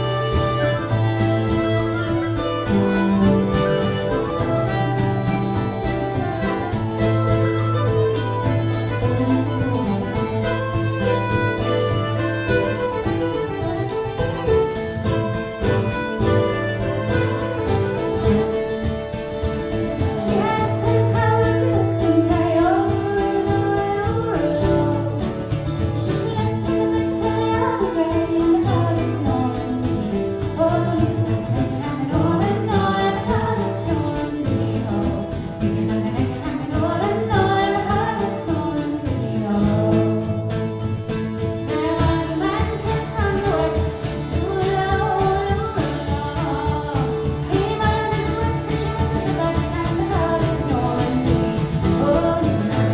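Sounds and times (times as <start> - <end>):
folk band playing: 0.0 - 52.9
woman singing: 0.0 - 52.9.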